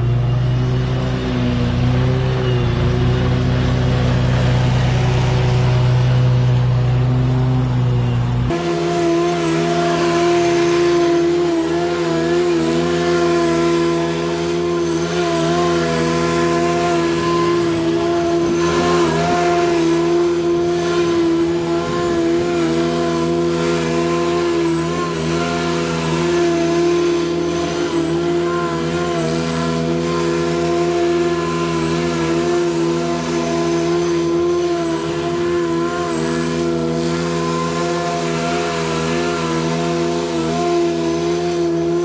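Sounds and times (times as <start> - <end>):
deeper hum: 0.0 - 42.0
lawn mower engine running: 0.0 - 42.0.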